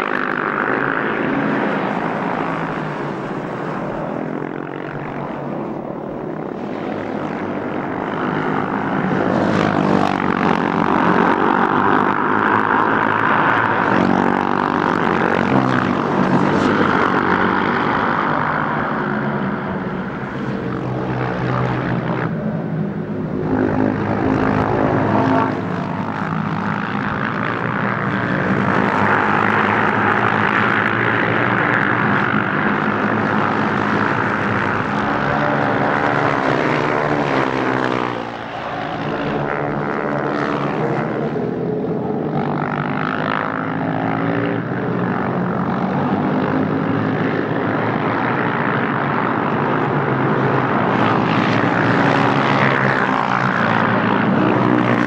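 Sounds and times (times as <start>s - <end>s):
racing motorcycles engines: 0.0s - 55.0s.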